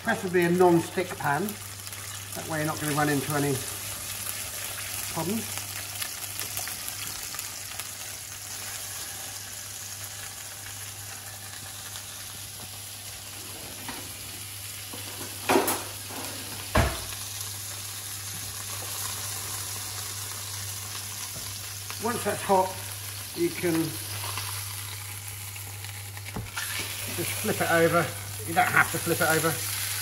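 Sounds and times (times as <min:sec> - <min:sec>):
fish sizzling in pan: 0:00.0 - 0:30.0.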